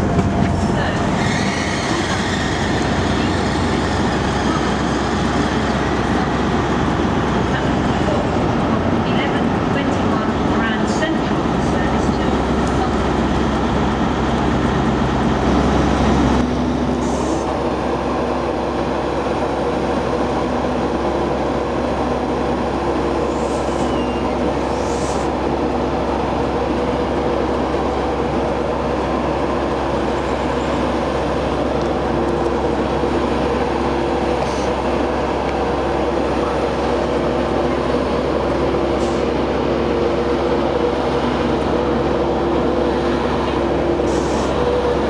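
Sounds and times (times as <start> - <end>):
diesel trains droning: 0.0 - 45.0
electric locomotive humming: 0.0 - 45.0.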